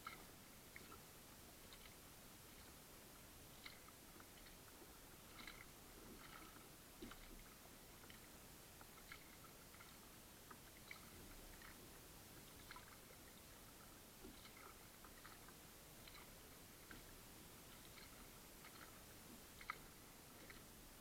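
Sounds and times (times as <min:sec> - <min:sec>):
low hiss: 0:00.0 - 0:21.0
paddle water splashes and drips: 0:00.0 - 0:21.0.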